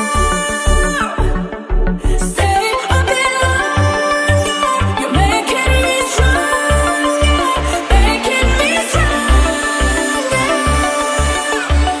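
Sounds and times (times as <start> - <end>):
heavy bass beat: 0.0 - 12.0.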